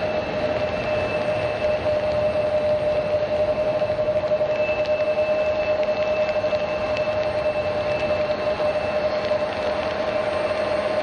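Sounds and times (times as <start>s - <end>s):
fainter higher whine: 0.0s - 11.0s
jet engines whining: 0.0s - 11.0s.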